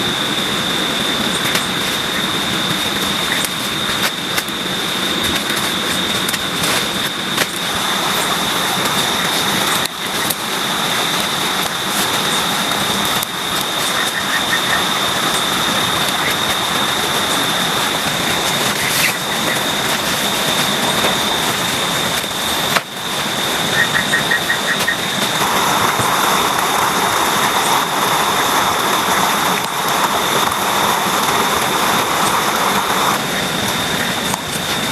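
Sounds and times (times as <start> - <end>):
heavy rain falling: 0.0 - 34.9
steady high whine: 0.0 - 34.9.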